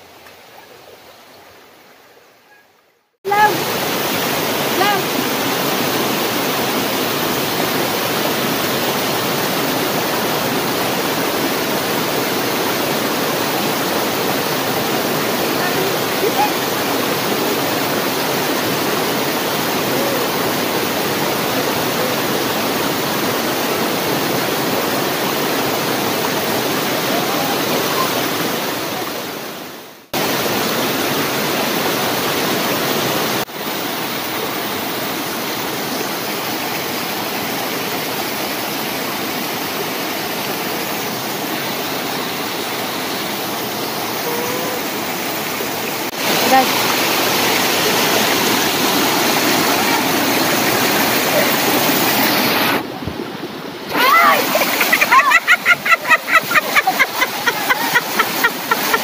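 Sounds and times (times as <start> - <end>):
waterfall pouring into pool: 3.3 - 29.3, 30.1 - 52.9, 53.9 - 59.0.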